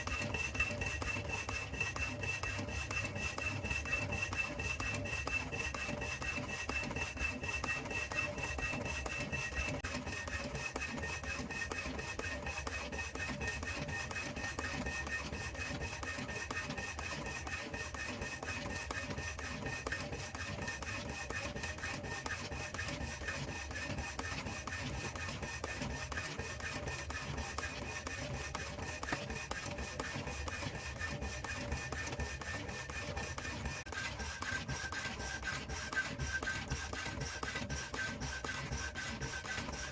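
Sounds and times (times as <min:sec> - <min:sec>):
power hacksaw rasping: 0:00.0 - 0:39.9.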